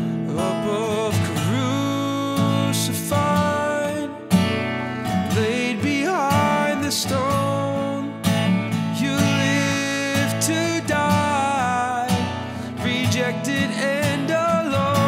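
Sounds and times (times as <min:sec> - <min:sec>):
man singing: 0:00.0 - 0:15.0
strummed acoustic guitar: 0:00.0 - 0:15.0.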